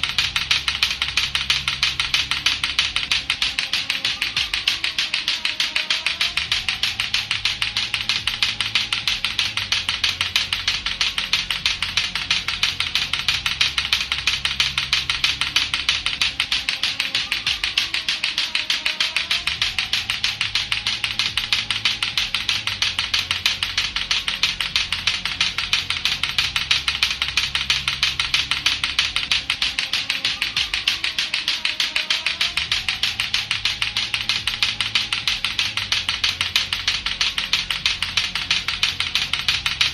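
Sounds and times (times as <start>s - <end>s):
clacker balls knocking: 0.0s - 39.9s
low backing track: 0.0s - 39.9s.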